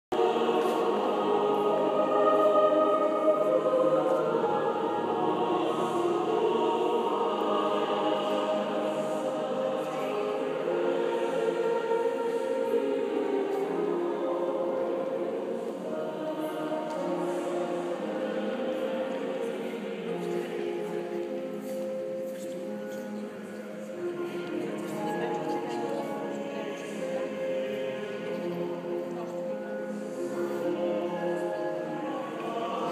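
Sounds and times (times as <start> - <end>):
choir singing held notes: 0.1 - 32.9.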